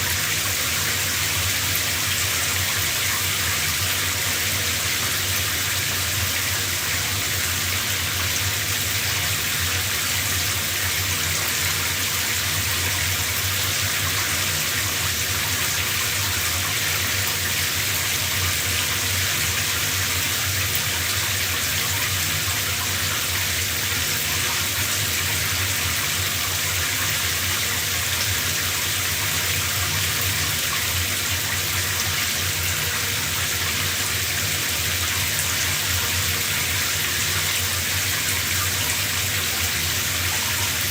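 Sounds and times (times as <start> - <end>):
shower spray running: 0.0 - 40.9.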